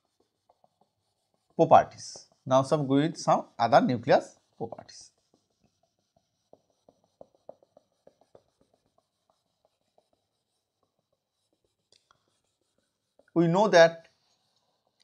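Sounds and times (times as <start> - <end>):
eraser rubbing on whiteboard: 0.0 - 15.0.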